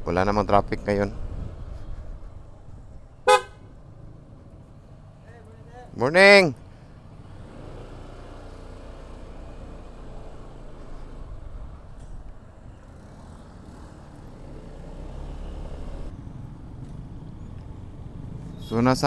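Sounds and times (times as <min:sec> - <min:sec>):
motorcycle engine rumble: 0:00.0 - 0:18.7.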